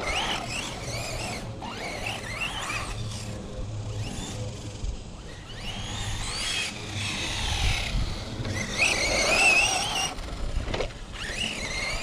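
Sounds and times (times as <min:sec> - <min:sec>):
toy truck electric motor whining: 0:00.0 - 0:12.0.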